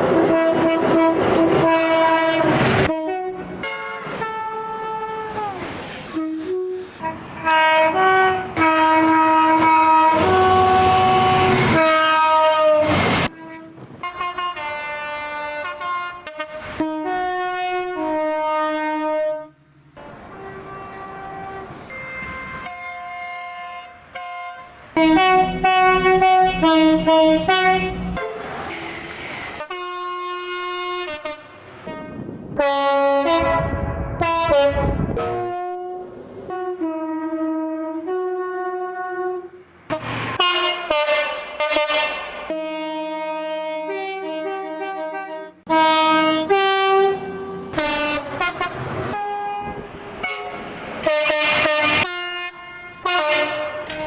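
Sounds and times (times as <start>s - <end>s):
train passing rumble: 0.0s - 54.0s
two-tone train horn: 0.0s - 54.0s.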